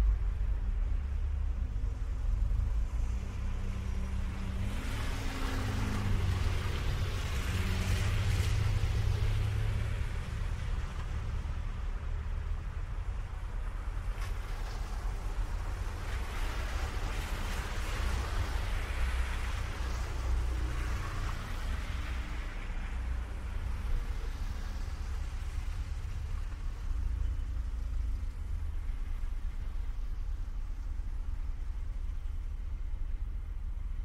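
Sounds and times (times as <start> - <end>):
low rumble of traffic: 0.0 - 34.0
vehicle passing with tyre noise: 0.0 - 34.0.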